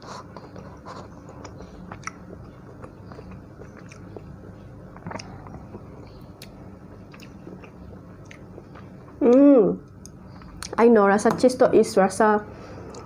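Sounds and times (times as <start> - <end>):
person chewing: 0.0 - 10.8
steady low hum: 0.0 - 13.0.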